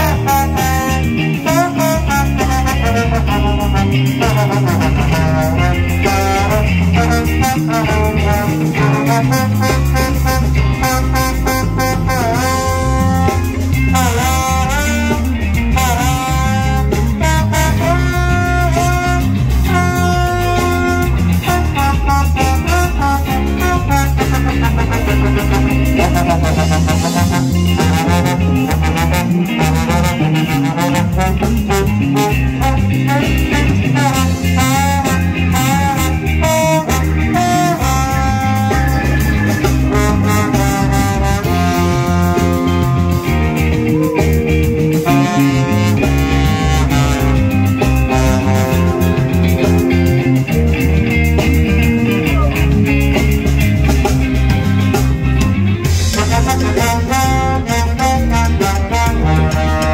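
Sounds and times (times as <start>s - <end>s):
trombone melody: 0.0s - 52.5s, 53.2s - 59.9s
reggae band playing: 0.0s - 59.9s.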